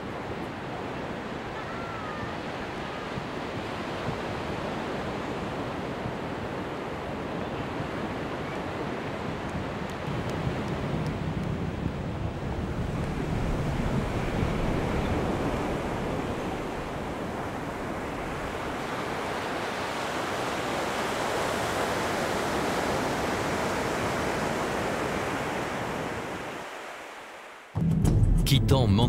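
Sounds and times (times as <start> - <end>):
surf waves on beach: 0.0 - 27.8.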